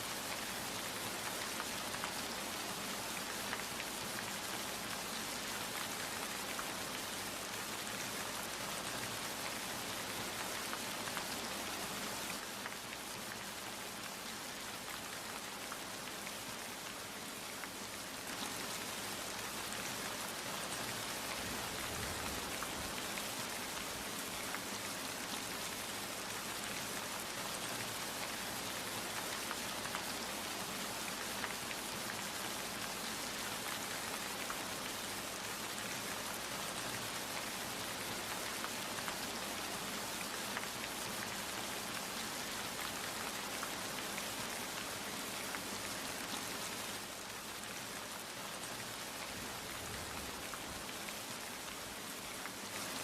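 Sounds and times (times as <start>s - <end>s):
rain patter on a surface: 0.0s - 53.0s.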